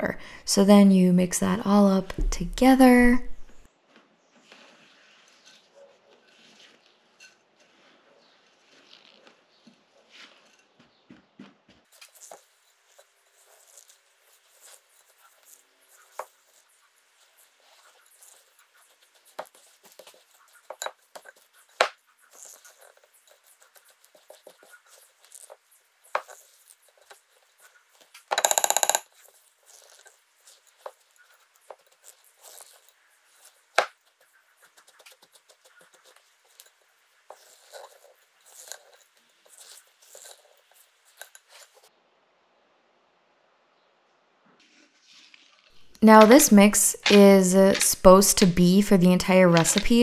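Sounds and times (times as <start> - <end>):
utensil scraping in a bowl: 4.4 - 10.8, 11.9 - 41.9, 45.1 - 50.0.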